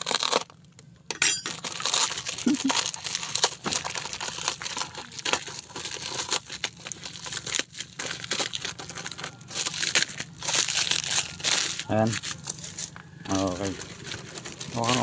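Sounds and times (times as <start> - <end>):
plastic film crinkling: 0.0 - 0.7, 1.5 - 15.0.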